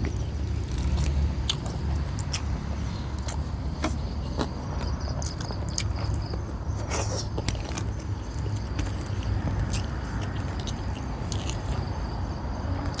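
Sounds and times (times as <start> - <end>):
person chewing and smacking: 0.0 - 2.6, 3.2 - 11.9
crickets trilling: 0.0 - 13.0.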